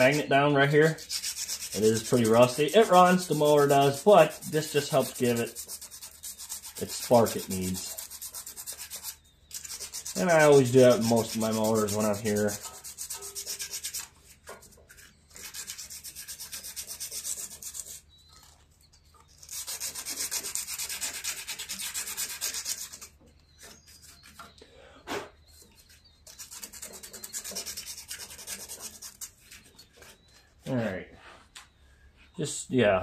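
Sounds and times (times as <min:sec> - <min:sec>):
hand sanding rubbing strokes: 0:00.0 - 0:18.1, 0:19.3 - 0:24.4, 0:25.7 - 0:30.6.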